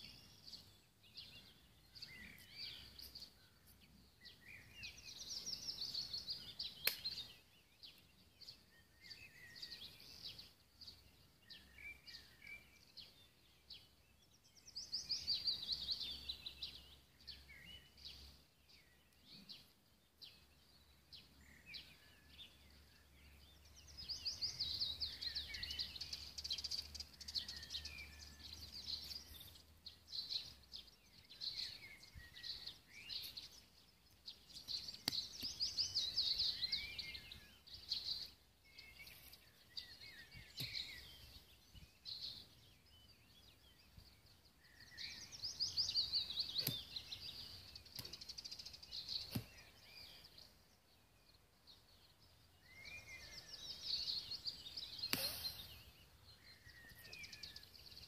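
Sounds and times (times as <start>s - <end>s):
wild birds trilling song: 0.0s - 58.0s.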